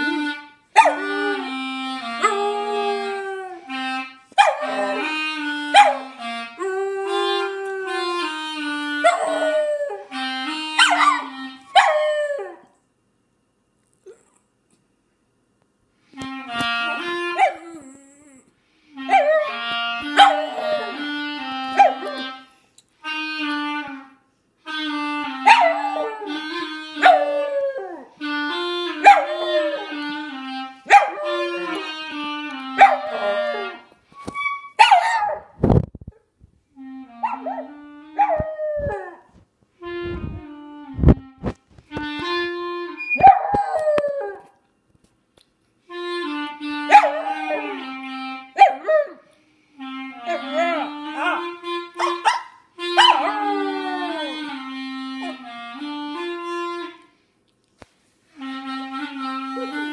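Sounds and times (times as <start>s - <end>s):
clarinet playing held notes: 0.0s - 12.6s, 16.1s - 34.8s, 36.7s - 44.5s, 45.9s - 57.3s, 58.3s - 59.9s.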